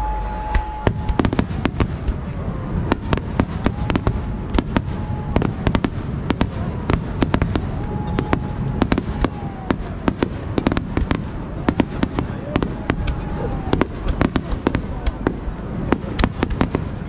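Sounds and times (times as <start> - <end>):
continuous low rumble: 0.0 - 17.0
fireworks bangs: 0.0 - 17.0.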